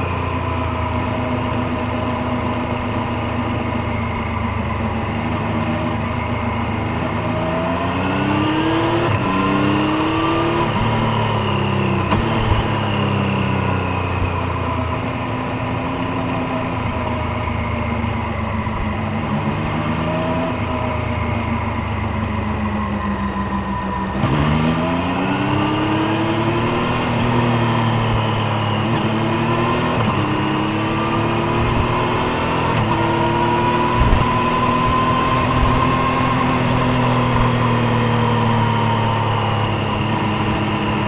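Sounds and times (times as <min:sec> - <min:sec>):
motorcycle engine and exhaust: 0:00.0 - 0:41.0.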